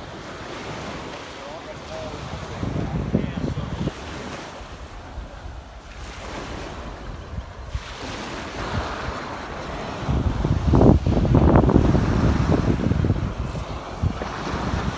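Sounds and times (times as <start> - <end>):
surf washing on beach: 0.0 - 14.9
wind on microphone: 0.0 - 14.9.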